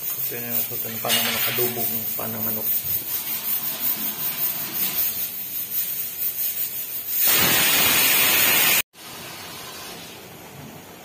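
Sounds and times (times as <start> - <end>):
food sizzling in a pot: 0.0 - 9.8.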